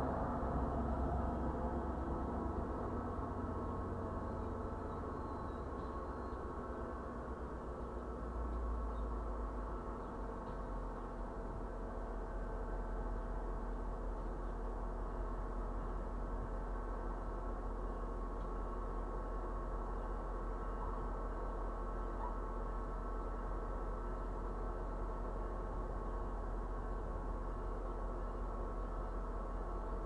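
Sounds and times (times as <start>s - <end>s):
train rumbling and humming: 0.0s - 30.0s.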